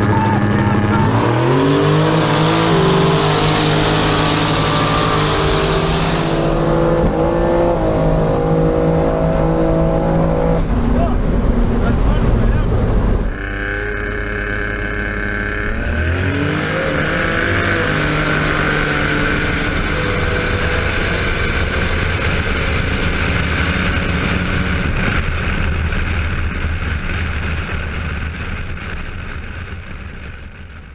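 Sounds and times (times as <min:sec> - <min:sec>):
race car engines running hard: 0:00.0 - 0:30.9.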